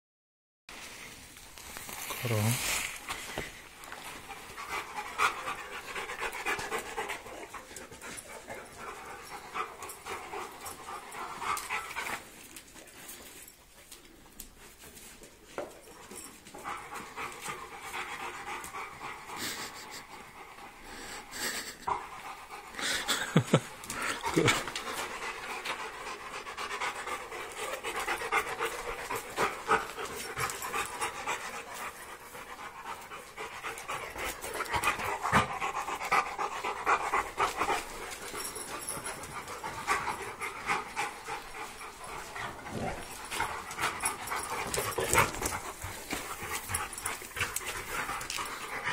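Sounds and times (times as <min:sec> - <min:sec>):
dogs panting: 0:03.0 - 0:48.9.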